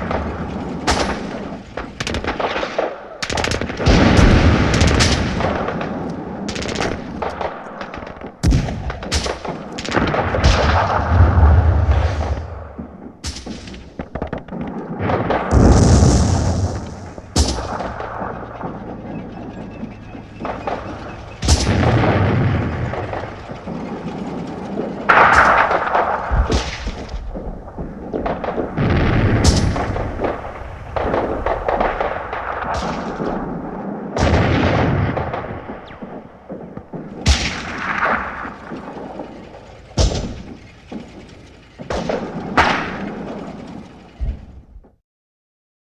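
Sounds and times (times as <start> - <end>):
gunshots: 0.0 - 44.5
artillery booms with rumbling echo: 0.0 - 45.0.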